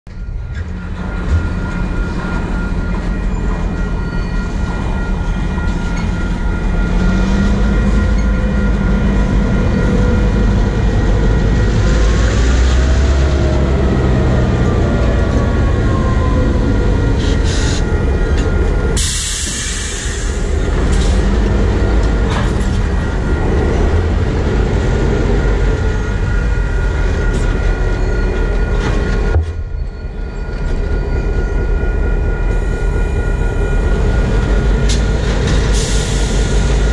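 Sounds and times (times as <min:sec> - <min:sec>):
locomotive engine rumble: 0:00.1 - 0:36.9
train wheels rumbling and clattering: 0:00.1 - 0:36.9
high wheel squeal: 0:00.5 - 0:36.9.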